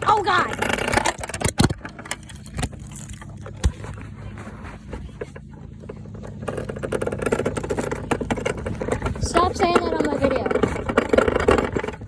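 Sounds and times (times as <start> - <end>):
rattles: 0.0 - 12.0
ride-on car motor humming: 0.0 - 12.0.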